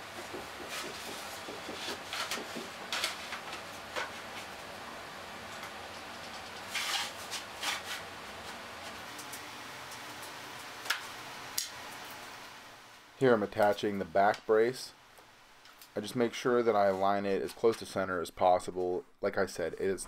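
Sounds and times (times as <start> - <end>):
steady low hiss: 2.8 - 20.0.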